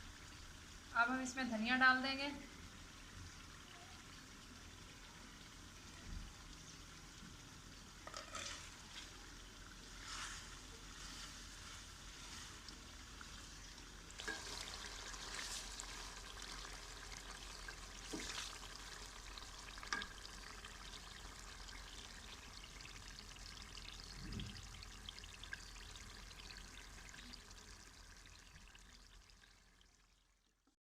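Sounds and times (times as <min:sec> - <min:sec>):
curry sizzling in a pot: 0:00.0 - 0:30.8.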